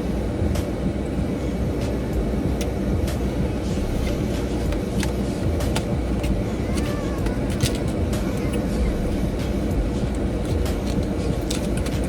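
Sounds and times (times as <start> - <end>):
car rumble from inside cabin: 0.0 - 12.0.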